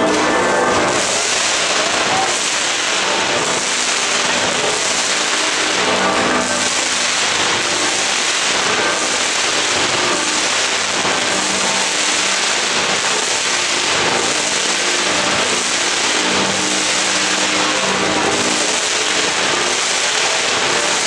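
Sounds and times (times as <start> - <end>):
fireworks crackling hiss: 0.7 - 21.0.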